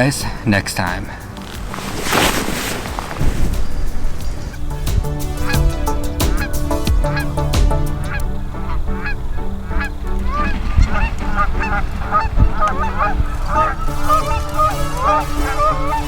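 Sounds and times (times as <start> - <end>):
geese honking: 0.0 - 16.0
steady low background noise: 0.0 - 16.0.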